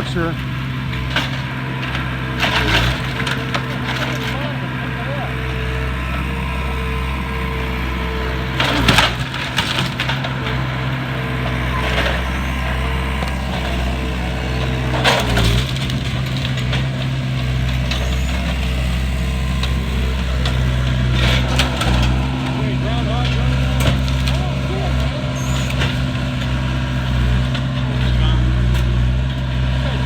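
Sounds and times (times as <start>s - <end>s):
heavy machine engine drone: 0.0s - 30.0s
wood cracking and splintering: 0.9s - 29.1s.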